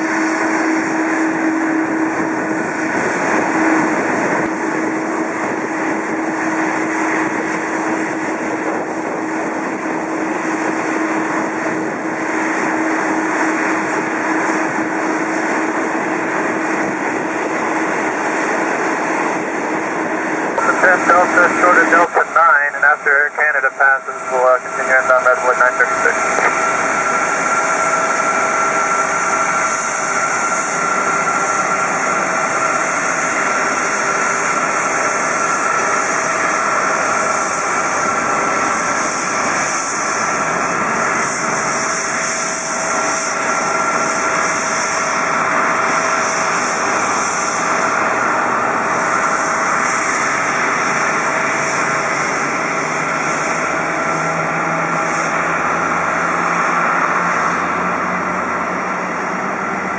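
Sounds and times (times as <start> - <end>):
jet engines rushing whine: 0.0 - 59.9.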